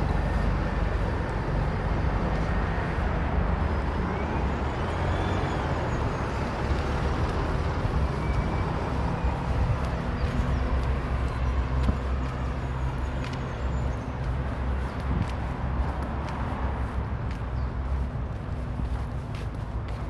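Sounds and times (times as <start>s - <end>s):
vehicle low rumble: 0.0s - 20.0s.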